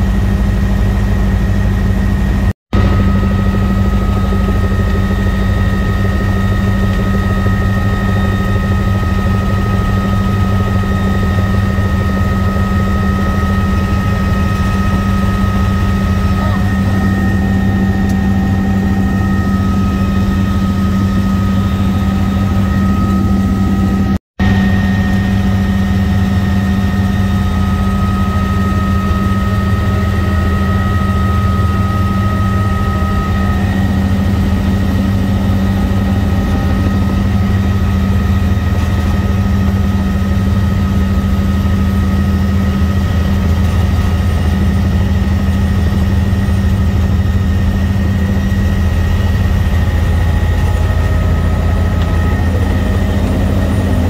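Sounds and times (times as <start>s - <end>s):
helicopter rotor hum: 0.0s - 54.0s
turbine high whine: 0.0s - 54.0s.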